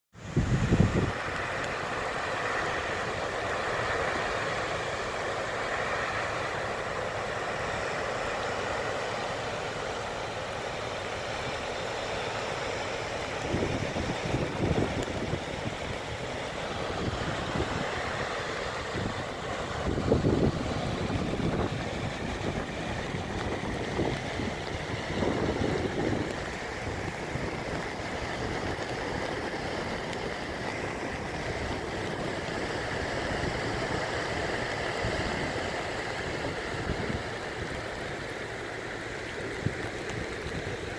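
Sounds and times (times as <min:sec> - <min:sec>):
wind gusts on microphone: 0:00.2 - 0:05.2, 0:13.0 - 0:40.9
water rushing through floodgates: 0:00.2 - 0:40.9.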